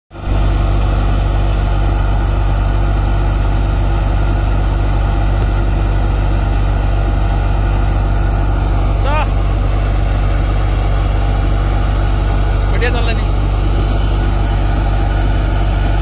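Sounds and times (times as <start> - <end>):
thresher machine droning: 0.1 - 16.0.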